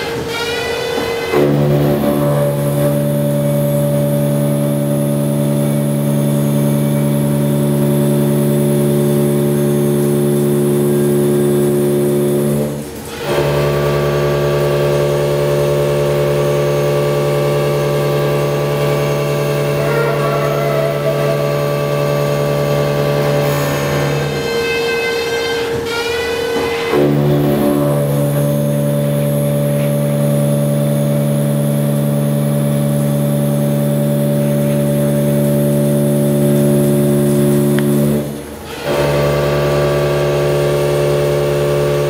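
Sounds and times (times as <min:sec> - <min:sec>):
milling machine cutter drone: 0:00.0 - 0:42.0.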